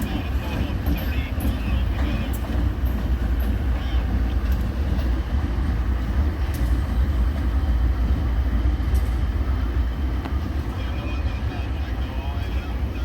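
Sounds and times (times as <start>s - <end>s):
diesel freight train rumbling: 0.0s - 13.0s.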